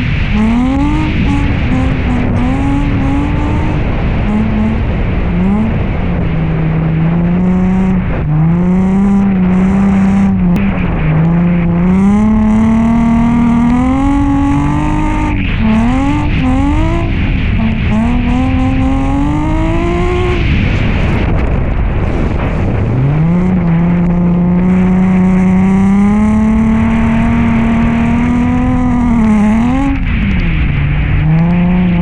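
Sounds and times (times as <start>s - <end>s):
car engine revving hard: 0.0s - 32.0s.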